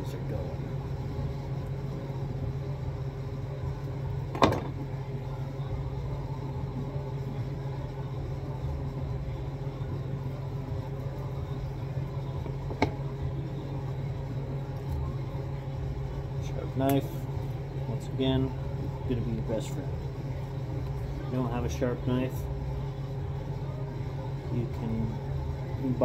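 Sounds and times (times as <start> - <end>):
low machinery hum: 0.0 - 26.0.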